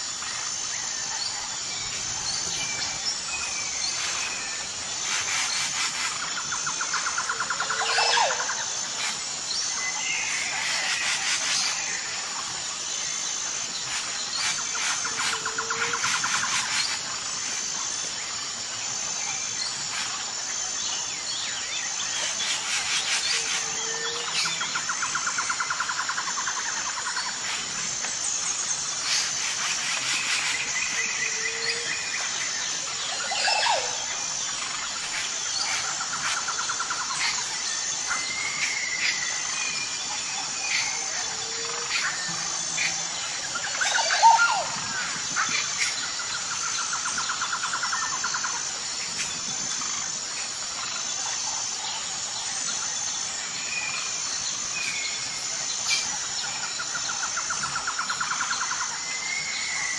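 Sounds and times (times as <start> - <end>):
birds chirping and trilling: 0.0 - 59.9
insect chorus: 0.0 - 59.9.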